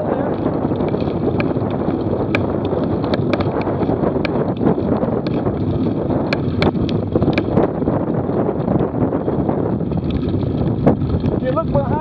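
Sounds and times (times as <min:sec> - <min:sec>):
sharp ticks and rattles: 0:00.0 - 0:12.0
tyres rumbling on rough pavement: 0:00.0 - 0:12.0
wind buffeting microphone: 0:00.0 - 0:12.0.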